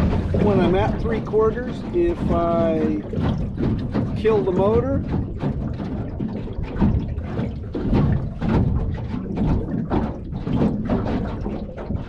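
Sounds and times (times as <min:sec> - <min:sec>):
water knocking on boat hull: 0:00.0 - 0:12.0
wind buffeting microphone: 0:00.0 - 0:12.0.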